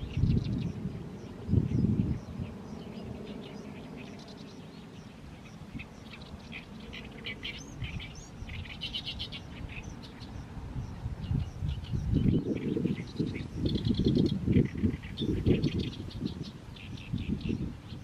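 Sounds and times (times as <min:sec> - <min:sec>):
reed warbler chattering song: 0:00.0 - 0:18.0.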